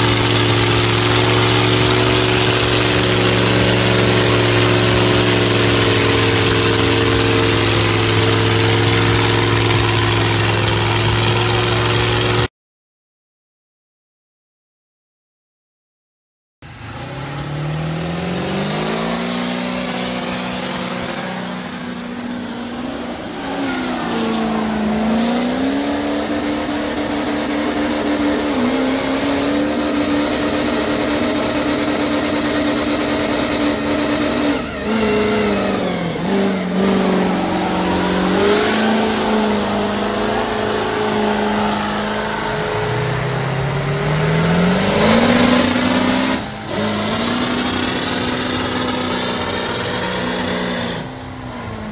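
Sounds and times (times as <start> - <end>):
spinning tyres hissing: 0.0 - 12.5, 16.7 - 51.9
truck engines revving hard: 0.0 - 12.5, 16.6 - 51.9.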